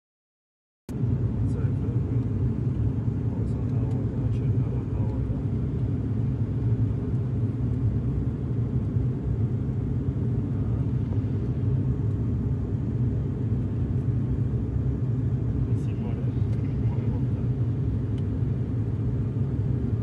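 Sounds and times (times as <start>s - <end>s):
aircraft cabin drone: 0.9s - 20.0s.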